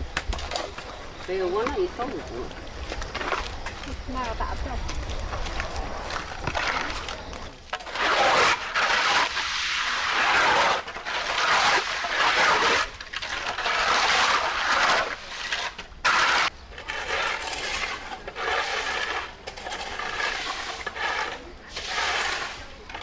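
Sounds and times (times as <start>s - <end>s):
sweeping and scraping mud: 0.0s - 23.0s.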